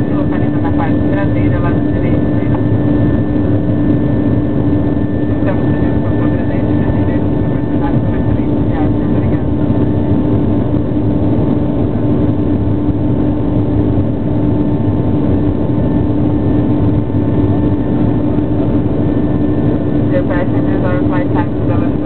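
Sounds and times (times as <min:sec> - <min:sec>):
jet engines droning: 0:00.0 - 0:22.0.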